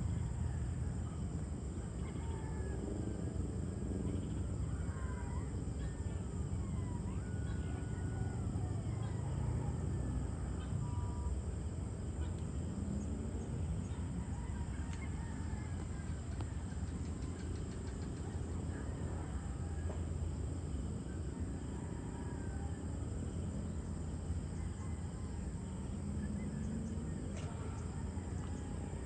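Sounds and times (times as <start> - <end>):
distant traffic rumble: 0.0 - 29.0.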